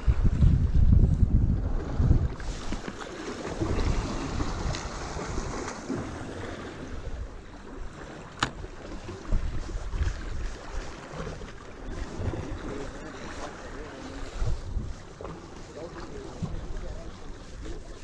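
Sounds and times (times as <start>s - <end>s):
surf on shore: 0.0s - 18.0s
wind buffeting microphone: 0.0s - 18.0s.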